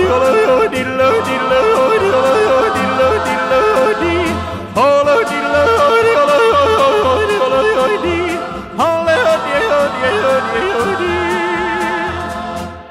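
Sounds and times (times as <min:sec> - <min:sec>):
person yodelling: 0:00.0 - 0:12.0
backing track with steady beat: 0:00.0 - 0:12.9.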